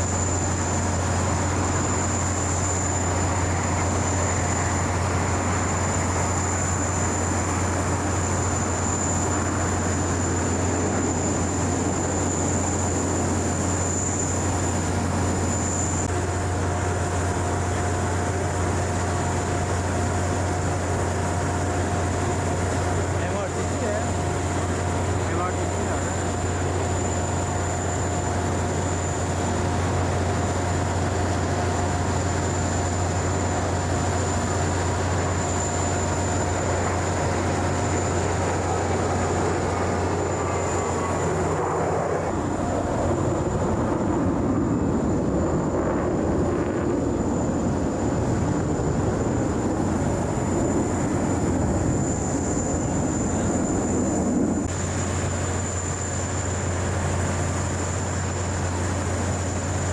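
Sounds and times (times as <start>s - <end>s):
aircraft flying overhead: 0.0s - 59.9s
steady low hum: 0.0s - 59.9s.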